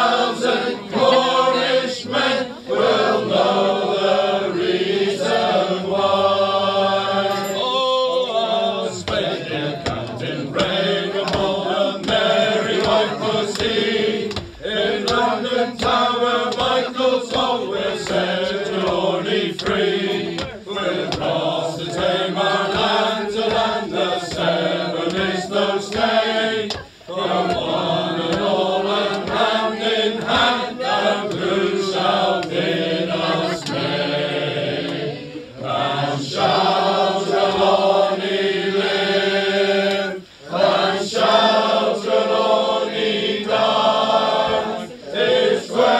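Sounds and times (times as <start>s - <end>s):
men singing unaccompanied: 0.0s - 45.9s.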